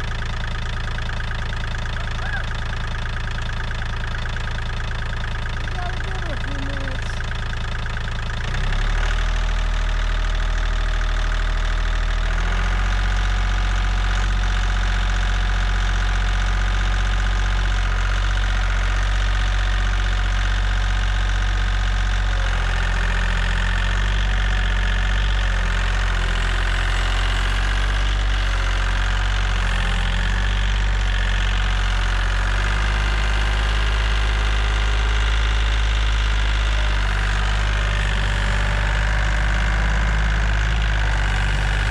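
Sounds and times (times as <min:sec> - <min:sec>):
tractor diesel engine idling: 0:00.0 - 0:41.9.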